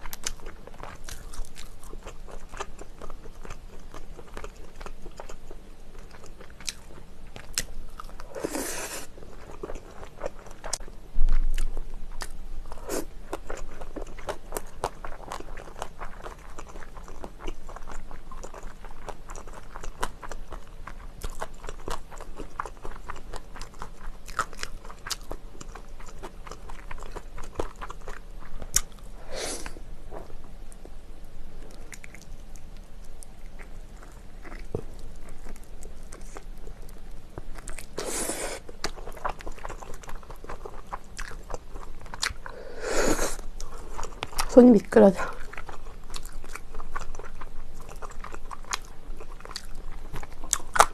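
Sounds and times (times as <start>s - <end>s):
chewing and crunching food: 0.0s - 31.0s, 31.6s - 50.9s.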